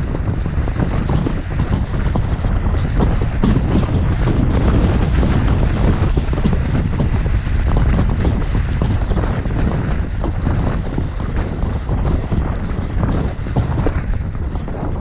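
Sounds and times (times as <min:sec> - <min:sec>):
skis sliding over snow: 0:00.0 - 0:15.0
wind on microphone: 0:00.0 - 0:15.0.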